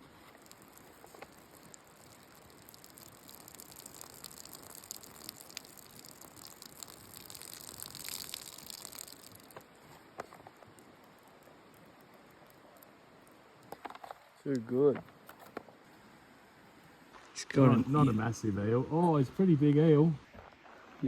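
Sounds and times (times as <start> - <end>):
rushing water hiss: 0.0 - 21.0.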